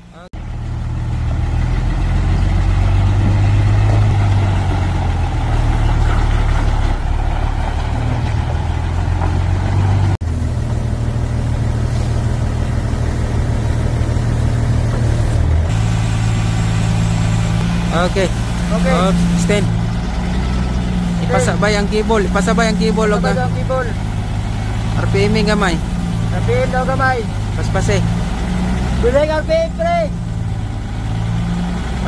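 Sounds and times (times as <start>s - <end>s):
diesel engine running at low revs: 0.0s - 32.0s.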